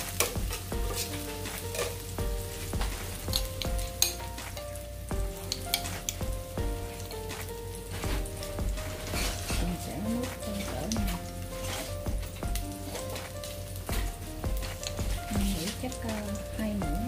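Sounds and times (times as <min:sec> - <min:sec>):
light background music: 0:00.0 - 0:17.0
shallots sizzling in hot oil: 0:00.0 - 0:17.0.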